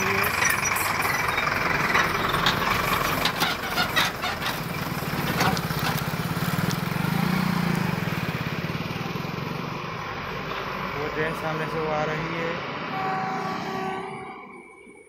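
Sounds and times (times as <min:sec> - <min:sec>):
vehicle engine idling: 0:00.0 - 0:12.2.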